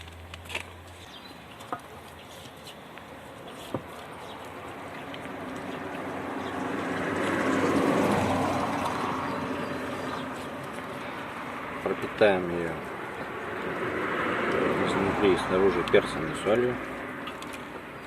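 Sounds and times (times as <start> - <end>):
motor vehicle passing by: 3.1 - 18.0.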